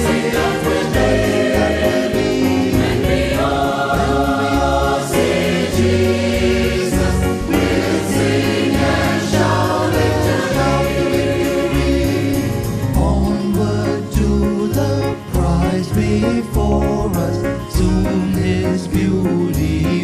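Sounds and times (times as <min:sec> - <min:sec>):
choir singing gospel: 0:00.0 - 0:20.0
instrumental backing with beat and bass: 0:00.0 - 0:20.0.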